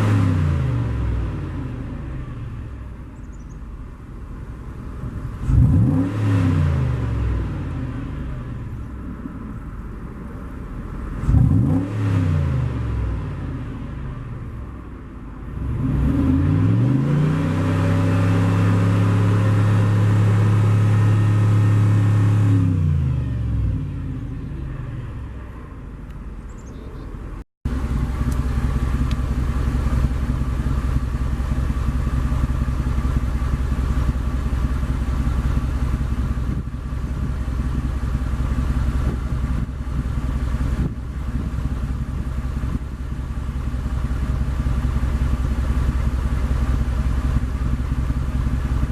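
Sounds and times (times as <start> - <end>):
car engine revving and idling: 0.0 - 48.9.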